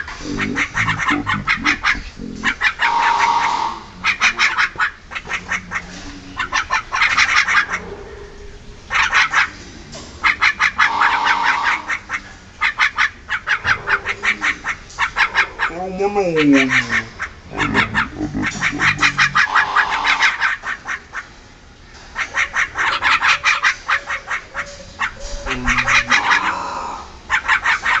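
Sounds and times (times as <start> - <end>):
birds rattling chatter calls: 0.0 - 28.0.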